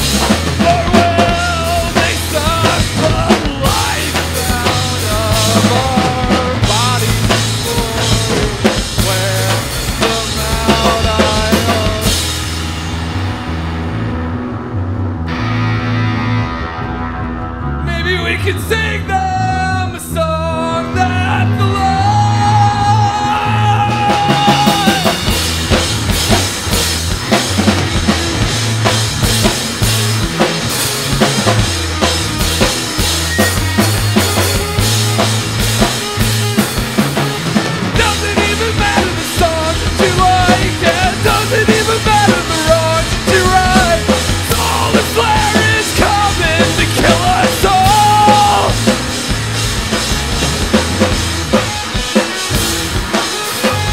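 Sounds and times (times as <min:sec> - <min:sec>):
bending electric guitar lead: 0:00.0 - 0:53.9
funk-rock band playing: 0:00.0 - 0:53.9.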